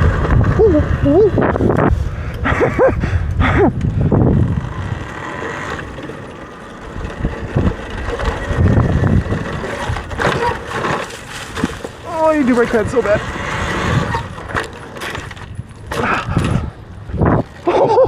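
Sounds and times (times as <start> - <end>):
electric dirt bike rolling: 0.0 - 18.0
wind buffeting microphone: 0.0 - 18.0
brakes squealing: 3.5 - 18.0.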